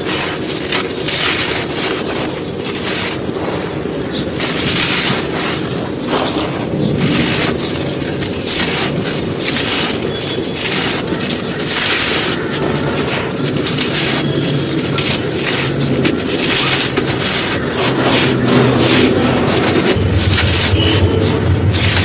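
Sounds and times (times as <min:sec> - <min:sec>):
sand crumbling and crunching: 0:00.0 - 0:22.0.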